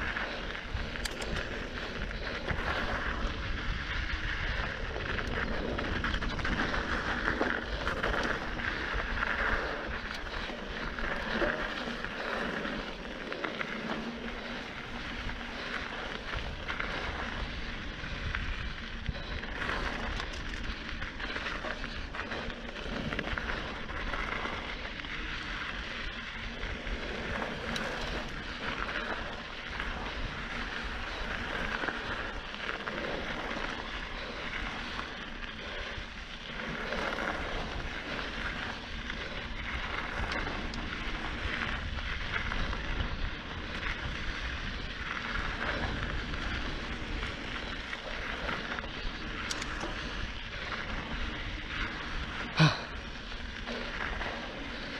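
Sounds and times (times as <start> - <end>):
bike tyres on dirt: 0.0 - 54.9.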